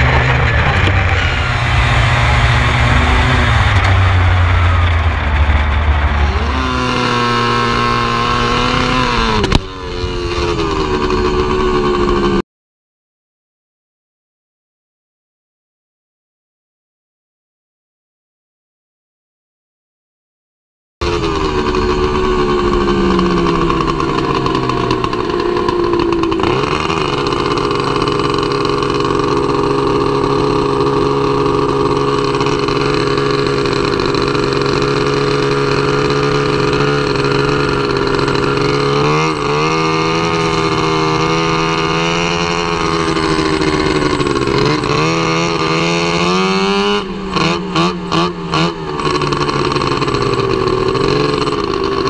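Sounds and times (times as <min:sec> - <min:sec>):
snowmobile engine: 0:00.0 - 0:12.4, 0:21.0 - 0:52.0.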